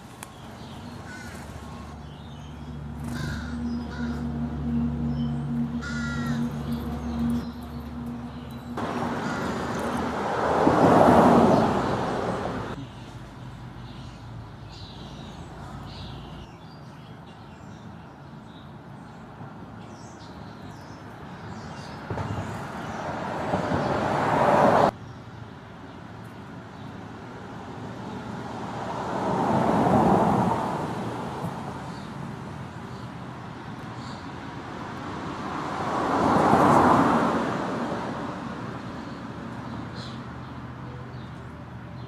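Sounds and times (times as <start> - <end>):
vehicles passing: 0.0 - 42.0.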